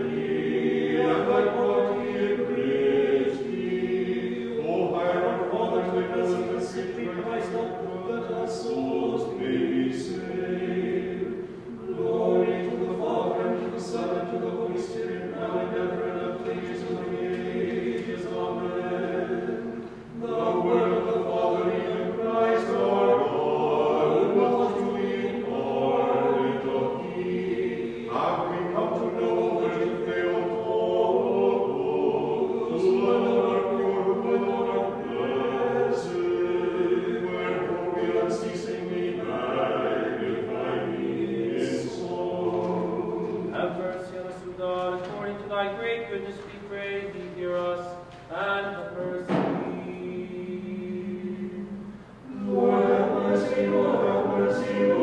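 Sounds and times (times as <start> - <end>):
choir chanting a cappella: 0.0 - 55.0.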